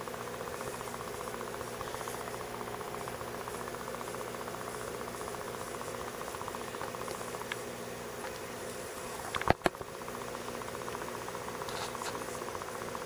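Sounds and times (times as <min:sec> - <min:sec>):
aquarium pump humming: 0:00.0 - 0:13.0.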